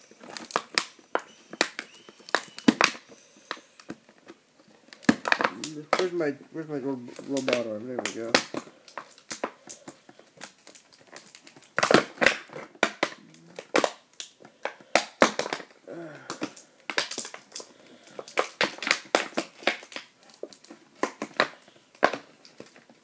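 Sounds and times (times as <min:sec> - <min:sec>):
packaging crinkling: 0:00.0 - 0:23.0.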